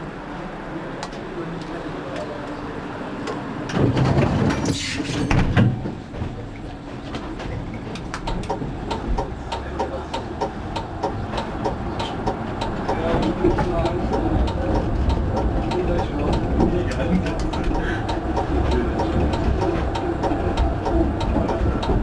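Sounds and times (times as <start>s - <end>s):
tram doors closing: 0.0s - 22.0s
tram running with regular ticks: 0.0s - 22.0s.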